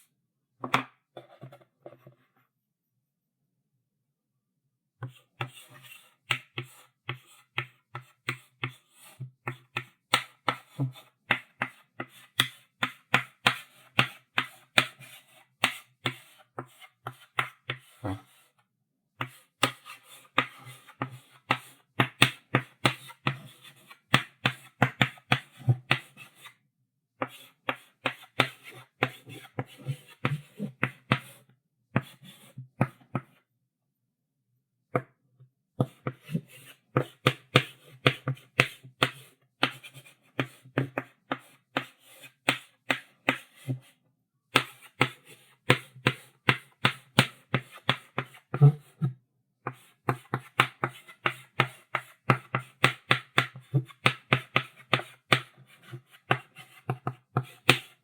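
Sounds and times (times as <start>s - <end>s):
chalk writing on a blackboard: 5.0s - 18.6s, 19.2s - 26.6s, 27.2s - 33.3s, 35.8s - 58.0s.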